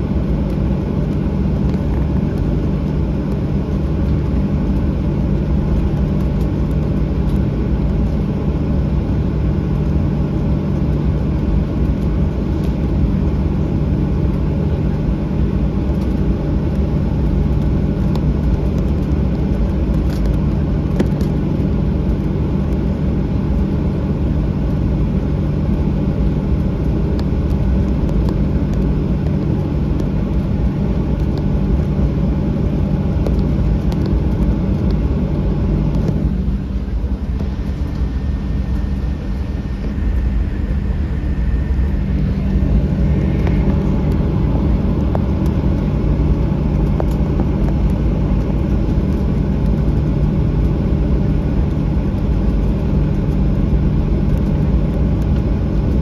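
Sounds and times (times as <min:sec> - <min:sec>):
aircraft rolling rumble: 0:00.0 - 0:56.0
jet engines idling hum: 0:00.0 - 0:56.0.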